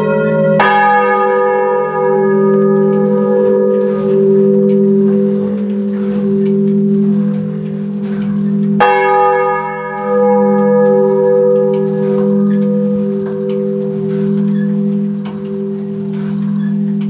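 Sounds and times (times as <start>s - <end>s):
bell clapper strike: 0.0s - 17.0s
low humming bell tones: 0.0s - 17.0s.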